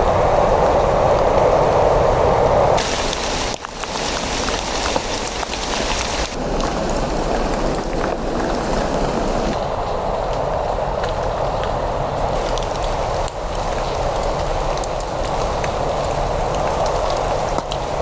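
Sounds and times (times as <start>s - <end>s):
steady rain hiss: 0.0s - 18.0s
raindrops ticking: 2.8s - 18.0s.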